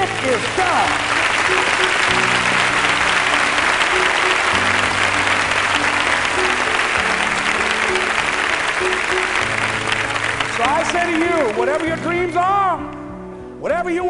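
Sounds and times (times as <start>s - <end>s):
audience applauding: 0.0s - 12.6s
low sustained background music: 0.0s - 14.0s.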